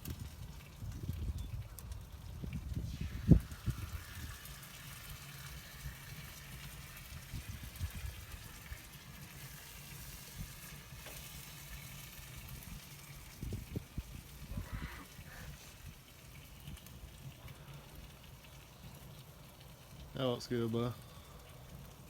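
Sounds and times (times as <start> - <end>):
faint sizzling of meat cooking: 0.0 - 22.0.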